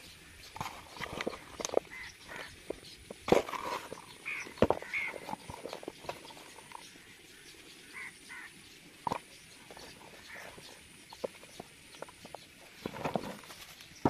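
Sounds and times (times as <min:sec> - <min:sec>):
bird chirps: 0:00.0 - 0:12.8.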